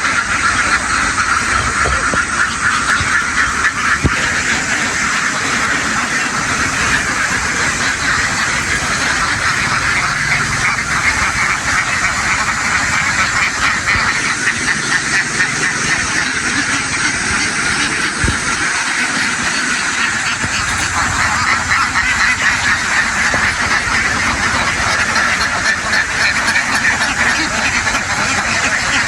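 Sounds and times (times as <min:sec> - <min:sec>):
flock of ducks quacking: 0:00.0 - 0:29.0.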